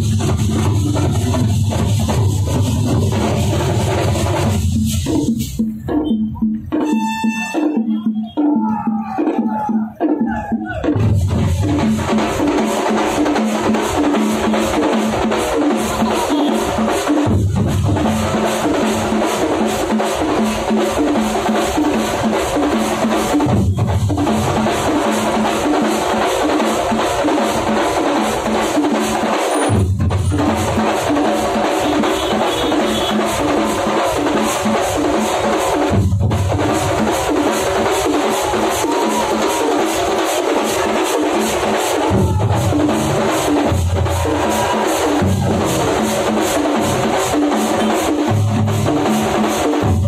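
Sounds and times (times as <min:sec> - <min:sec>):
drum ensemble fast rhythm: 0:00.0 - 0:50.0
heavy bass drum beats: 0:00.0 - 0:50.0.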